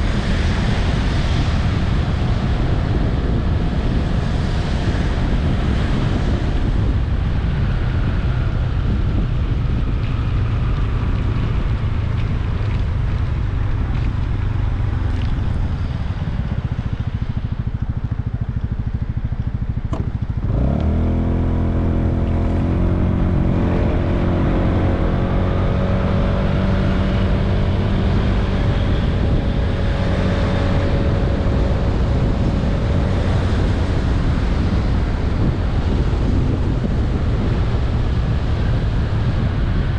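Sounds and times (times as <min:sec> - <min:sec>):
scooter engine running: 0:00.0 - 0:39.9
wind noise on microphone: 0:00.0 - 0:39.9.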